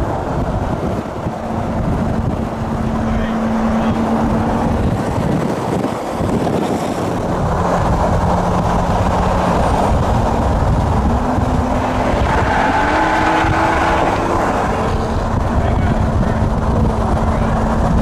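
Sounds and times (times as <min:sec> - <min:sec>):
car engine at speed: 0:00.0 - 0:18.0
road and wind noise: 0:00.0 - 0:18.0.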